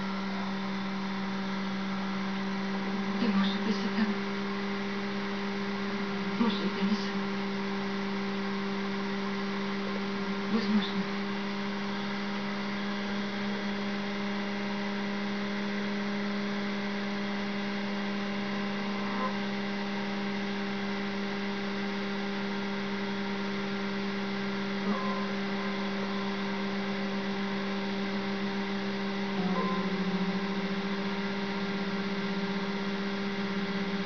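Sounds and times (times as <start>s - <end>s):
power supply humming: 0.0s - 34.0s.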